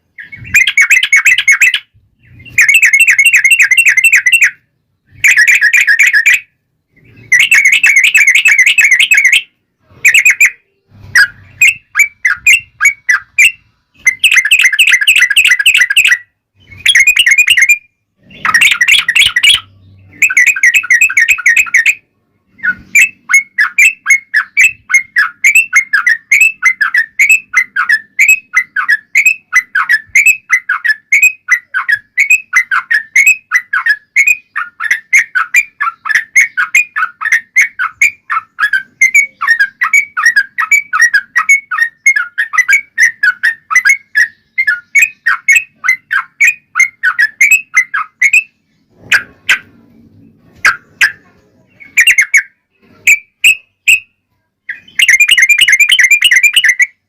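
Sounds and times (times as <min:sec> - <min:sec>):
bulbul song: 0:00.0 - 0:57.0.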